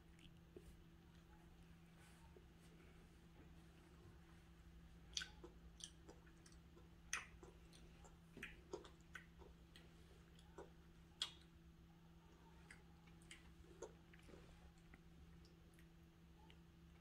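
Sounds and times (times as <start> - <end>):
toddler chewing cake: 0.0 - 2.6, 3.4 - 17.0.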